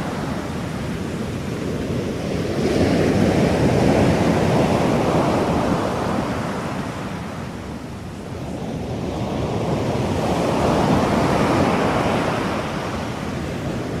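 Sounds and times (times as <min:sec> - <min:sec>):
ocean waves washing: 0:00.0 - 0:14.0.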